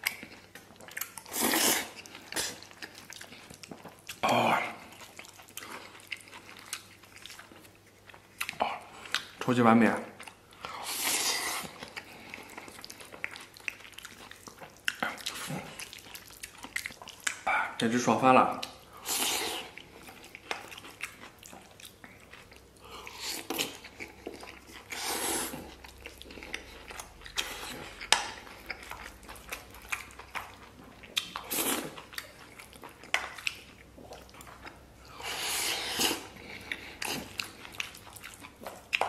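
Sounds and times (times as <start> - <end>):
person chewing food: 0.0 - 17.8, 18.5 - 39.0.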